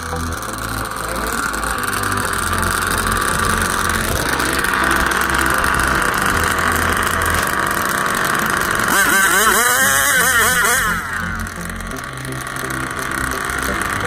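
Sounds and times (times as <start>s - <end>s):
engine revving: 0.0s - 14.0s
engine running: 0.0s - 14.0s.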